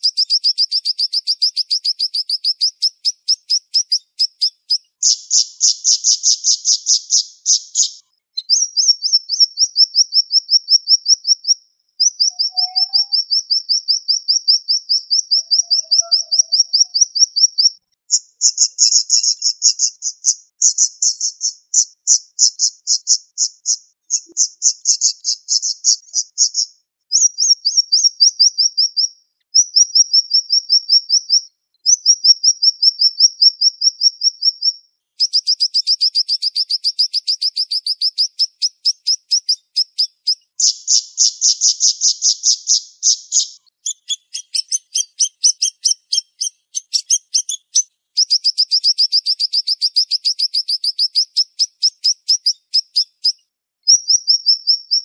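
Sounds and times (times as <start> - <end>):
songbird fast trills: 0.0 - 31.4, 32.0 - 55.0.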